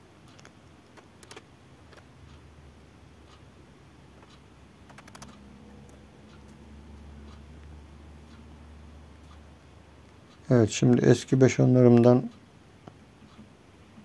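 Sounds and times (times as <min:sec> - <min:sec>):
low steady rumble: 0:01.5 - 0:14.0.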